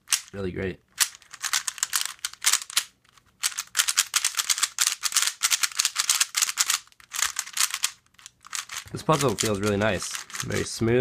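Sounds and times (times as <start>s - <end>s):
speed cube plastic clicks: 1.0s - 10.7s.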